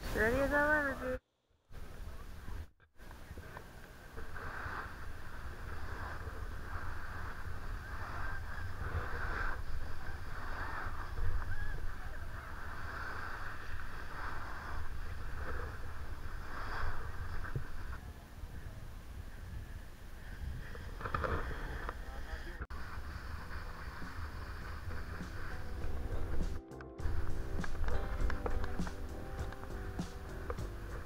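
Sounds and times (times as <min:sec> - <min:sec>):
snowboard scraping over snow: 0:03.3 - 0:18.1, 0:19.5 - 0:31.0
wind on microphone: 0:04.2 - 0:31.0.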